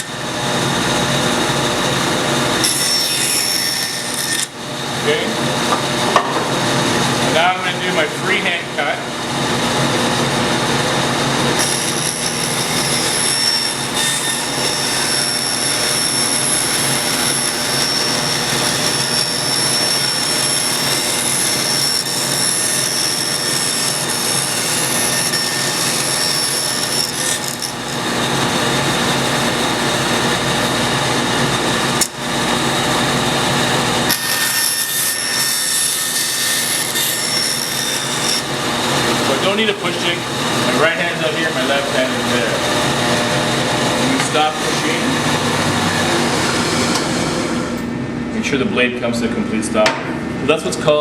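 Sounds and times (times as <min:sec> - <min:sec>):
bandsaw cutting wood: 0:00.0 - 0:47.8.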